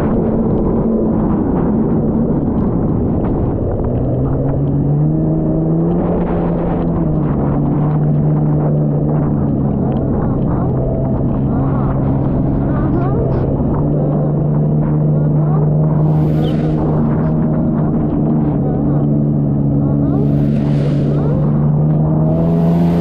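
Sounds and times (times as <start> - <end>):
jet ski engine running: 0.0 - 23.0
water and wind rumble: 0.0 - 23.0.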